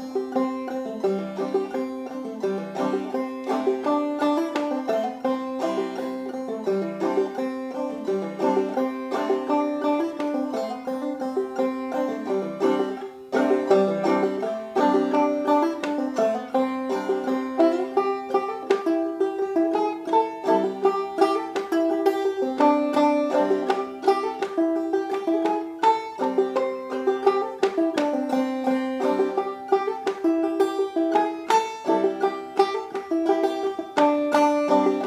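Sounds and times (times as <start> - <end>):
banjo plucked tune: 0.0 - 35.0.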